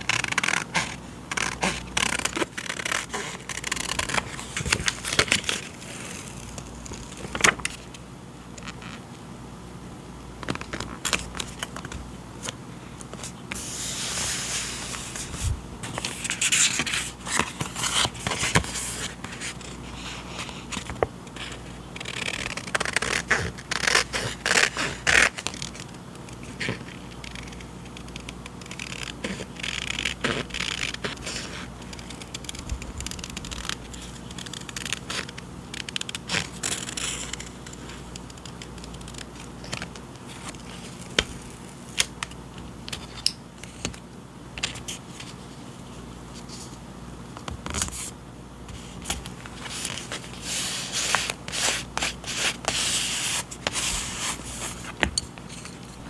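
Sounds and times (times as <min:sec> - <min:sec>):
paper rustling and crinkling: 0:00.0 - 0:08.0, 0:10.4 - 0:44.0, 0:48.7 - 0:56.0.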